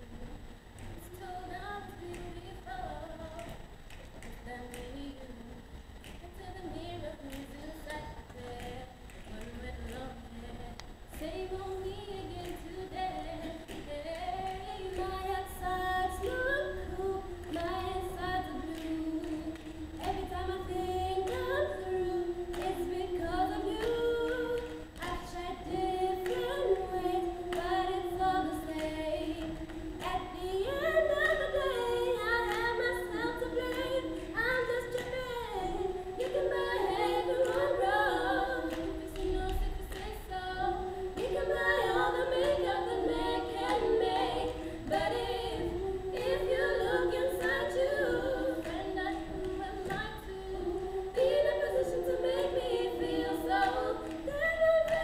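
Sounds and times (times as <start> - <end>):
choir singing a cappella: 0.0 - 55.0.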